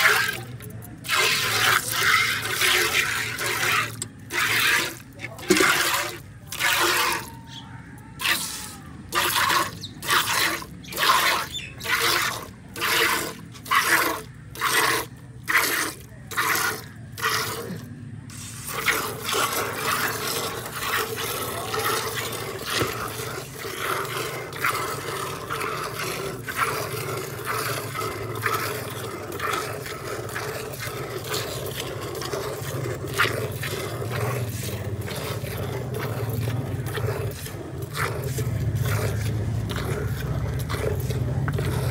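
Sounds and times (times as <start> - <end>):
milk squirting into steel pail: 0.0 - 41.9.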